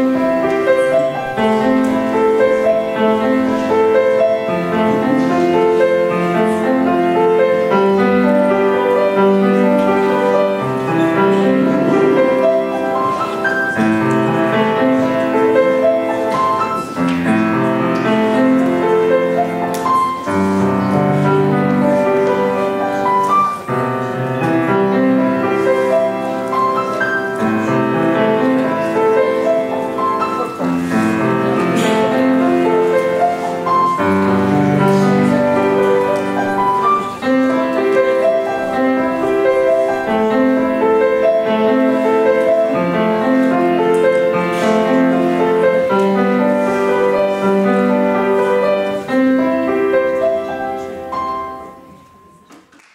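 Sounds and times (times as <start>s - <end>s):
solo piano piece: 0.0s - 52.9s.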